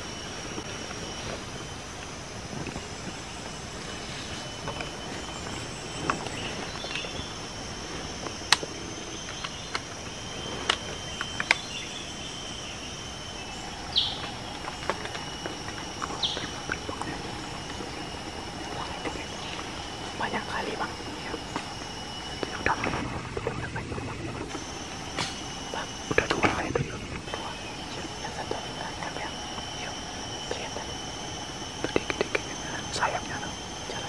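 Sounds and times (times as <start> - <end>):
high-pitched insect drone: 0.0 - 34.0
sharp ticks and snaps: 0.0 - 34.0.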